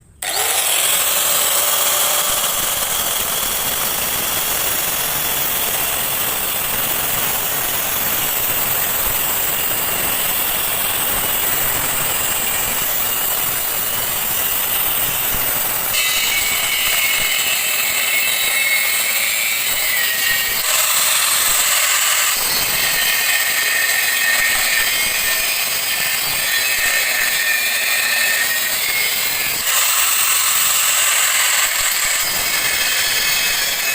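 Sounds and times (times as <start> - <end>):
grinder cutting steel: 0.1 - 33.9.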